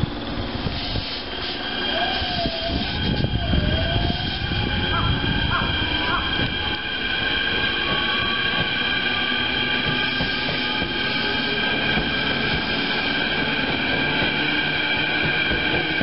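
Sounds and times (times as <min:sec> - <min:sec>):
rumble of train wheels: 0:00.0 - 0:16.0
train wheels squealing on rails: 0:00.0 - 0:16.0.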